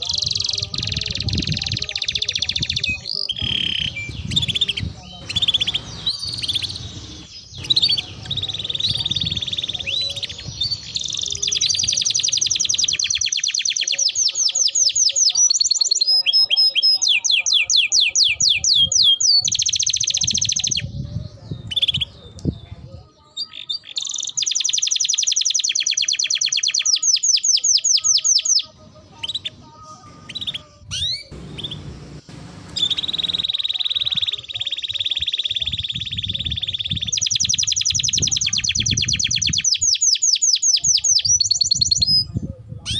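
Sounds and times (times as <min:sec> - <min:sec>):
songbird singing fast trills: 0:00.0 - 0:42.9.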